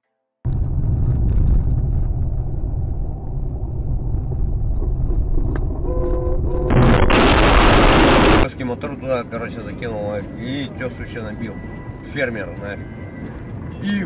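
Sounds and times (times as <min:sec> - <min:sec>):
car interior engine and tyre rumble: 0:00.5 - 0:14.0.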